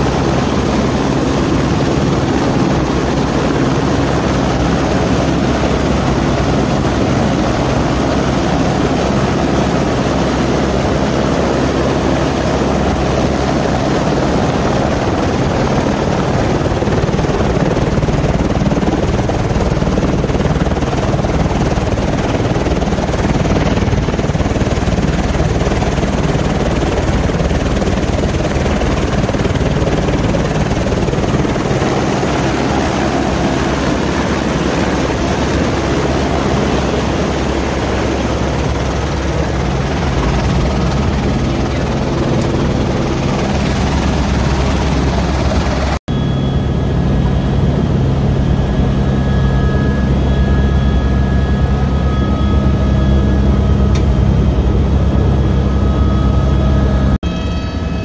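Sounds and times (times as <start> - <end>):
helicopter engine and rotor running: 0.0 - 58.0.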